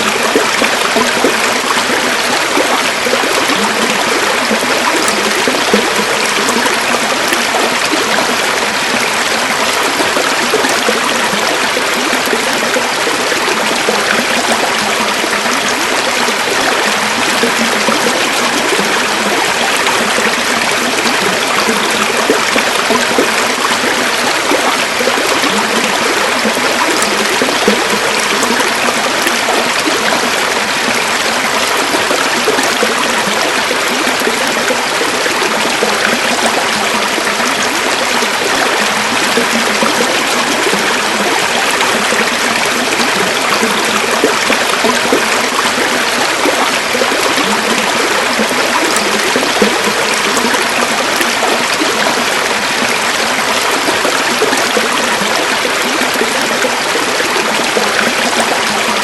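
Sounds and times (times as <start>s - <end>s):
stream flowing and burbling: 0.0s - 59.0s.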